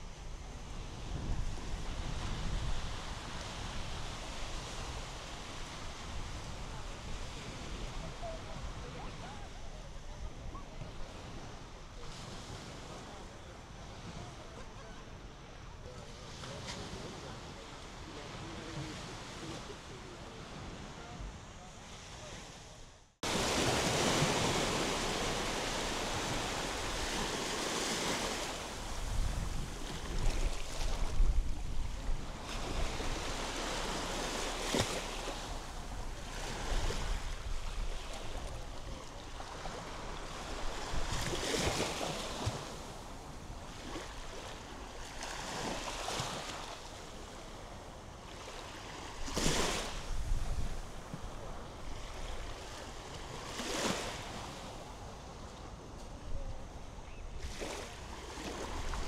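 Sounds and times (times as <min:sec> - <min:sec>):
wind rumbling on microphone: 0:00.0 - 0:14.5, 0:16.2 - 0:48.3, 0:49.1 - 0:55.4
small waves breaking on a beach: 0:00.0 - 0:59.0.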